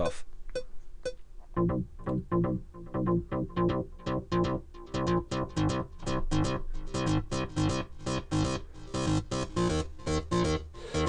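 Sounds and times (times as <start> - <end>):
synthesizer plucky repeated notes: 0.0 - 11.0.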